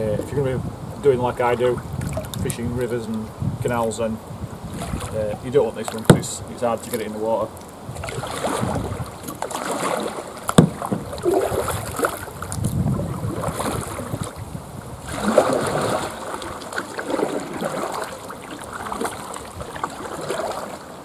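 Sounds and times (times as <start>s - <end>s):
paddle strokes splashing in water: 1.8s - 3.2s, 4.6s - 21.0s.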